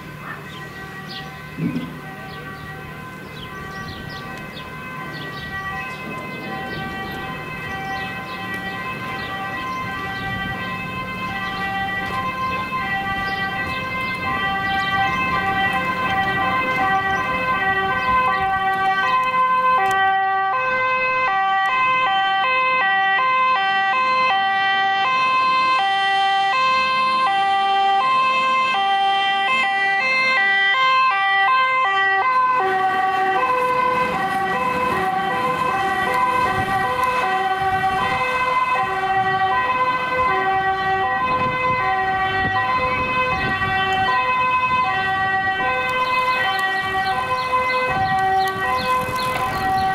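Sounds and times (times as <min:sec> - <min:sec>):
two-tone fire engine siren: 0:00.0 - 0:49.9.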